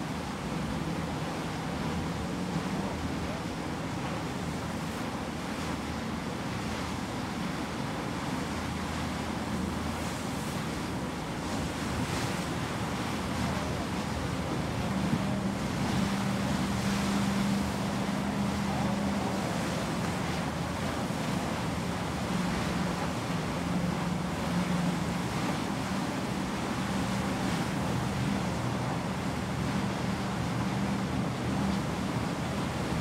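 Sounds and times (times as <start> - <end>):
sea water rushing: 0.0 - 33.0.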